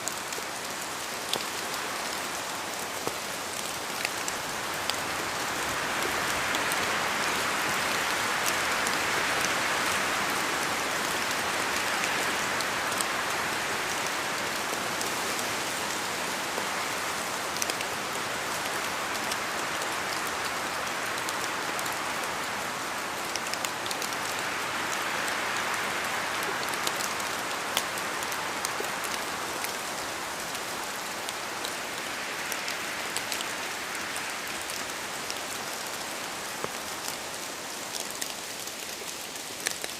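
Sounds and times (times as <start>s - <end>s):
rain falling in a forest: 0.0s - 39.9s.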